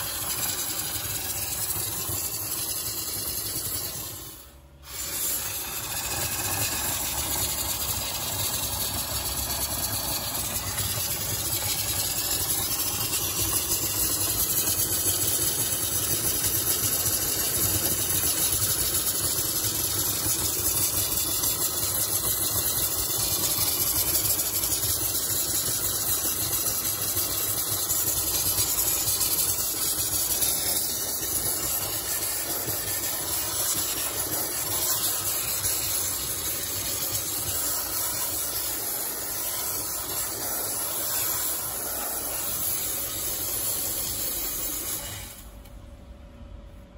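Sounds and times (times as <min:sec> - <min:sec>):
hot-air blower running: 0:00.0 - 0:45.8.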